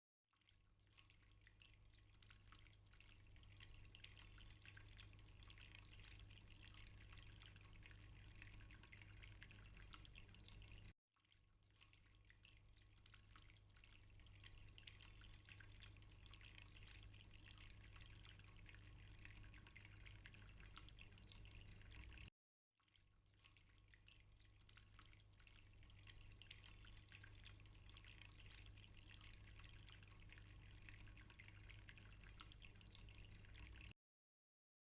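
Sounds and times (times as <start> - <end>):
fountain water trickling and dripping: 0.4 - 34.0.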